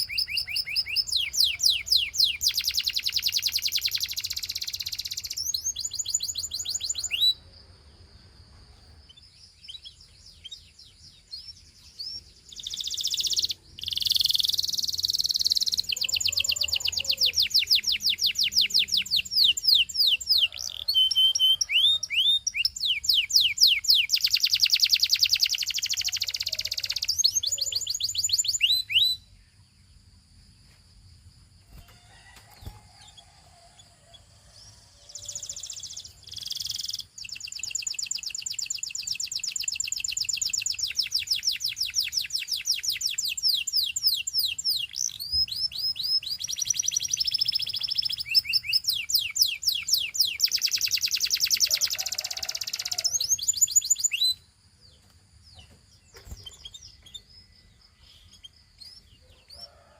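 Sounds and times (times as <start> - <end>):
canary singing trills: 0.0 - 8.1, 8.8 - 30.2, 31.7 - 59.9.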